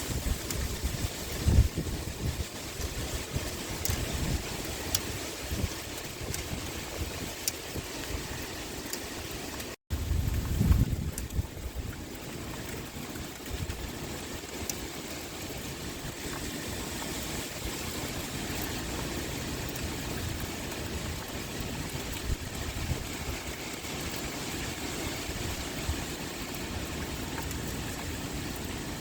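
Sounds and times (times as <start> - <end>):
wind blowing: 0.0 - 12.7, 13.4 - 29.0
heavy rain pouring: 0.0 - 29.0.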